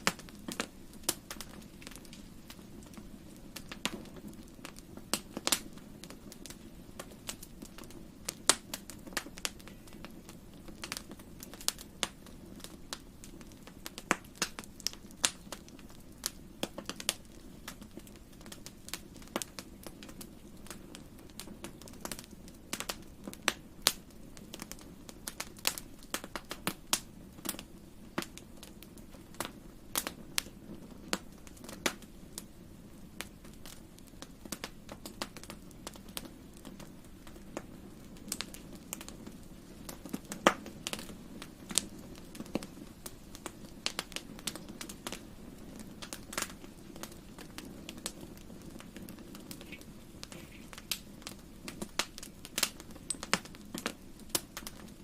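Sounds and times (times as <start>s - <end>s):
fire crackling and popping: 0.0s - 55.0s
low rush of fire: 0.0s - 55.0s.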